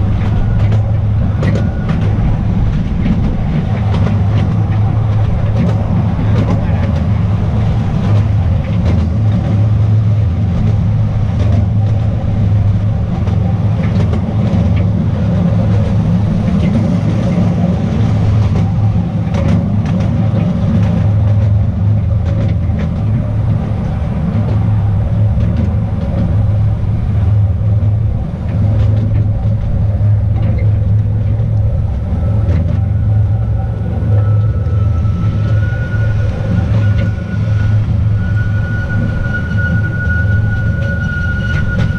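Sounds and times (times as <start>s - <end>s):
train rumbling along track: 0.0s - 41.9s
wheels clicking on rails: 0.0s - 41.9s.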